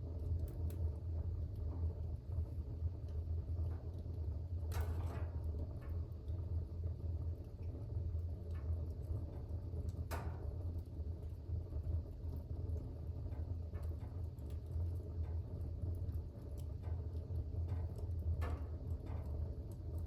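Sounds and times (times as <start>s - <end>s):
fire burning in fireplace: 0.0s - 20.0s
fire snapping: 0.0s - 20.0s.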